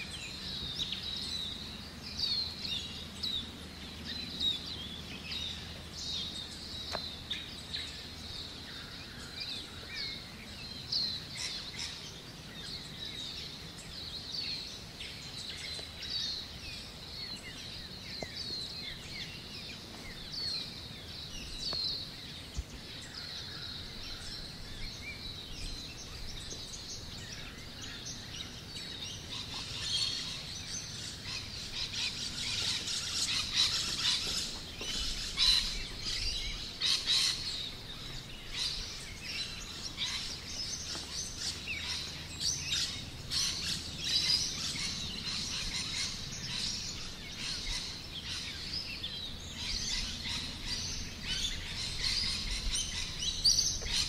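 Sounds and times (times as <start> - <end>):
chorus of birds chirping: 0.0 - 54.0.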